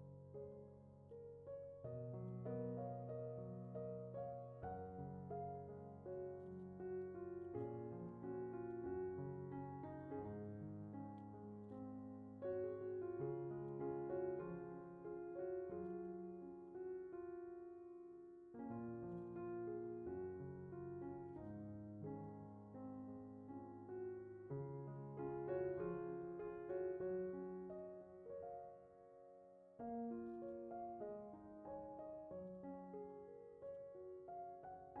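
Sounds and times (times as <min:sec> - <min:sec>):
soft piano music: 0:00.0 - 0:35.0.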